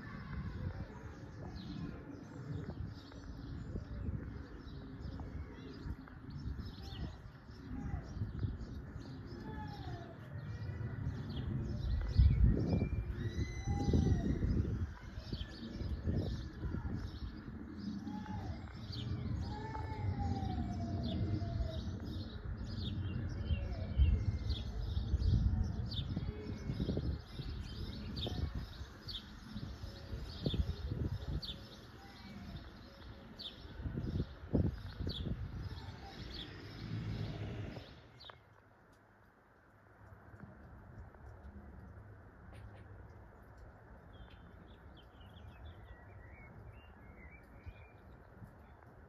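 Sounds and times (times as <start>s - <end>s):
small birds chirping: 0.0s - 49.0s
steady low rumble: 0.1s - 46.8s.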